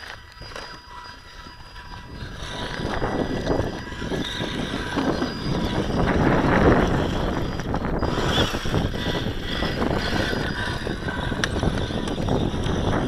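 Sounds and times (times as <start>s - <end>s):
faint steady high whine: 0.0s - 13.0s
wind buffeting microphone: 0.0s - 13.0s.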